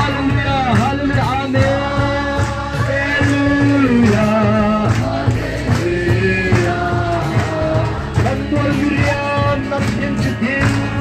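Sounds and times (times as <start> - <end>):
band with steady drum beat: 0.0 - 11.0
gospel singing in long notes: 0.0 - 11.0.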